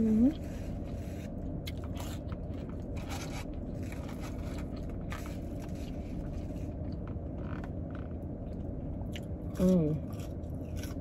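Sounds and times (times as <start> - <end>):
person chewing a sandwich: 0.4 - 11.0.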